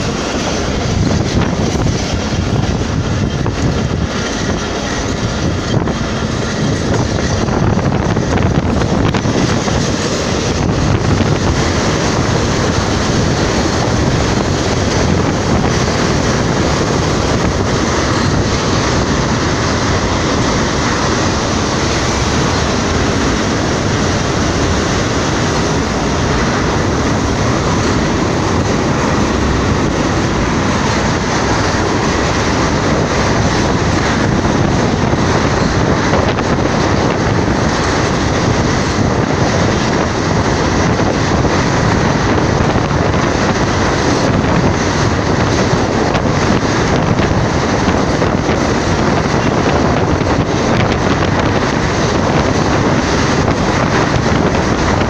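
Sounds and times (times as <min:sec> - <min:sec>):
train wheels rumbling on rails: 0:00.0 - 0:55.0
wind on microphone: 0:00.0 - 0:55.0.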